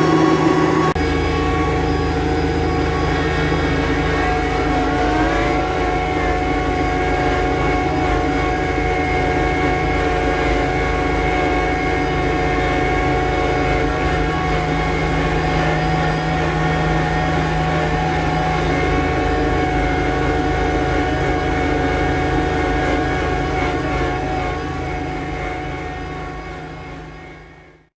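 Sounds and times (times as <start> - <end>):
tractor diesel engine running: 0.0 - 27.6.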